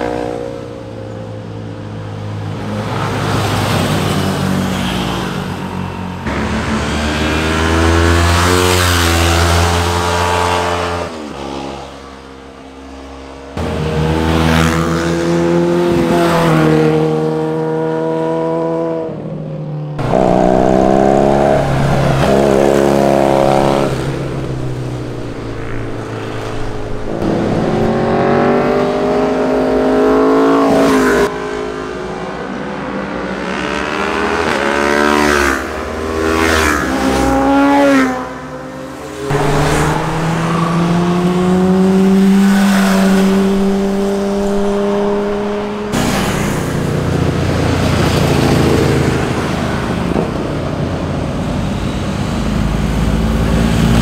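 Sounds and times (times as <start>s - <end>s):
motorcycles passing revving: 0.0s - 18.9s, 20.0s - 54.0s.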